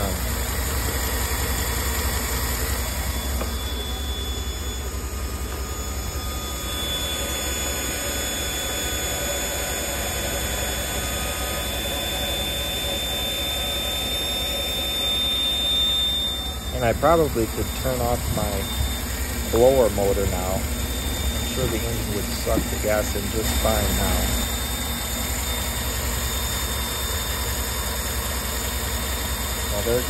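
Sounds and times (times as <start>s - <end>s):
blower motor whine: 0.0s - 30.0s
car engine idling: 0.0s - 30.0s.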